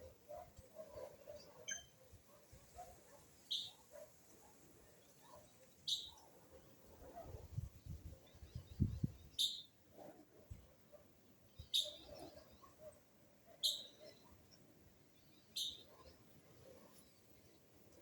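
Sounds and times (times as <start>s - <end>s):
faint bird twittering: 0.0s - 10.1s, 10.9s - 14.6s, 15.2s - 17.6s.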